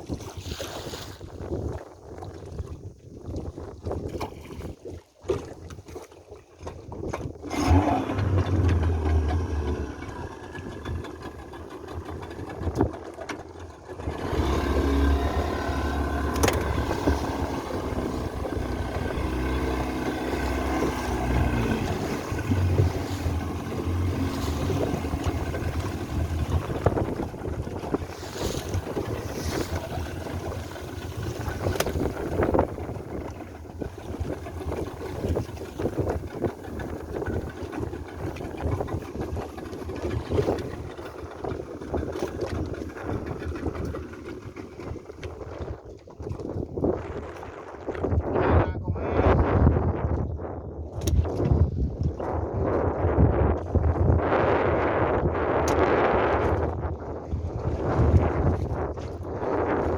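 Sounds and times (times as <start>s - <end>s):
wind buffeting microphone: 0.0s - 59.9s
boat motor rumble: 5.3s - 59.9s.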